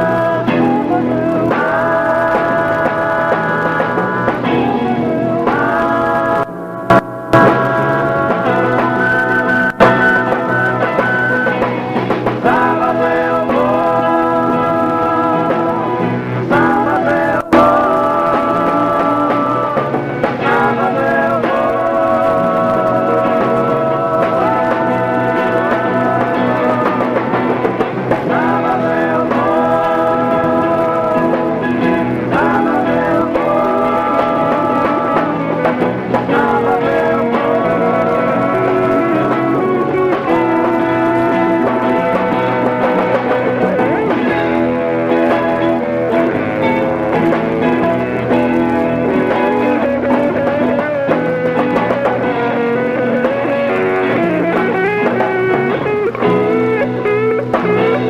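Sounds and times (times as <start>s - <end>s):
drums: 0.0s - 58.0s
electric guitar: 0.0s - 58.0s
person singing long notes: 0.0s - 58.0s.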